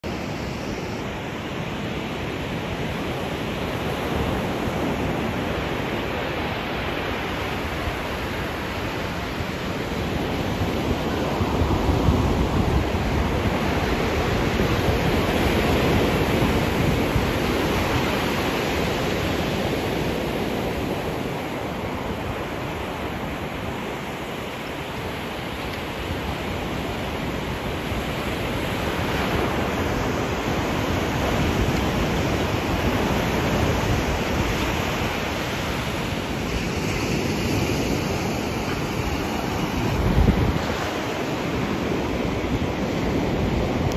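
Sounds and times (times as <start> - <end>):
ocean surf breaking on beach: 0.0 - 43.9.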